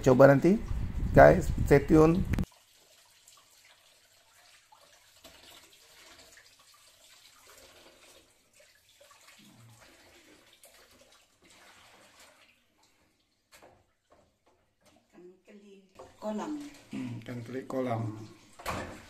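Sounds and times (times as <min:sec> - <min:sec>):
water being handled: 0:01.9 - 0:15.2, 0:16.0 - 0:19.0.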